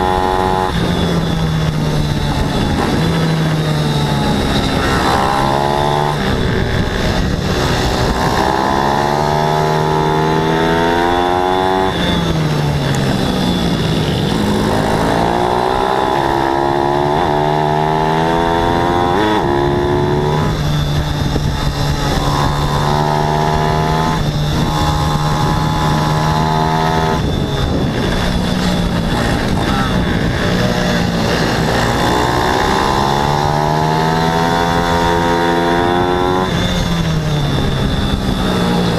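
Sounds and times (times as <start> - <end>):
motorbike engines revving: 0.0 - 38.9.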